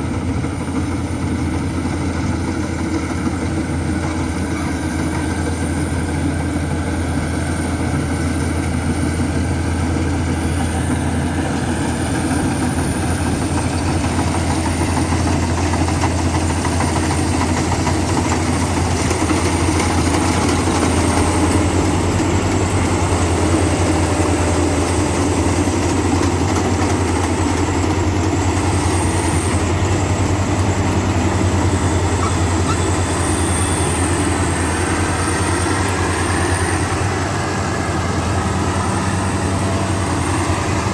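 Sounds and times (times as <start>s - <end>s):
heavy machine engine running: 0.0s - 40.9s.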